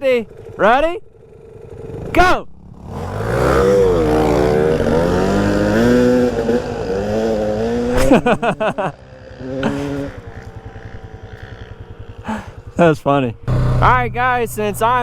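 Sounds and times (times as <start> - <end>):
dirt bike engines accelerating: 0.0 - 15.0.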